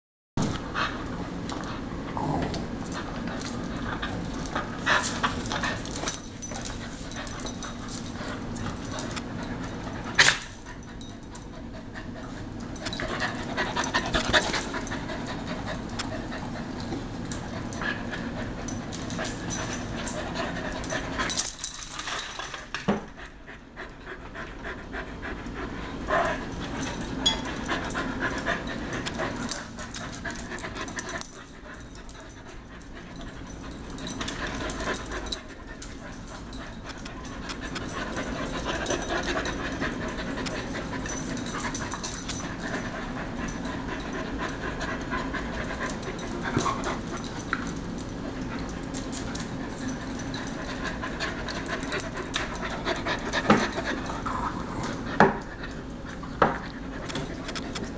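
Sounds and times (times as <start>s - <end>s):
dogs panting heavily: 0.4s - 57.9s.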